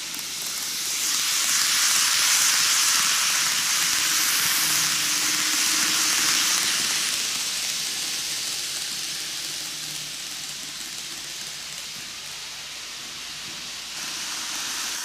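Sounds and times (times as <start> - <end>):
model train wheels rolling: 0.0 - 15.0.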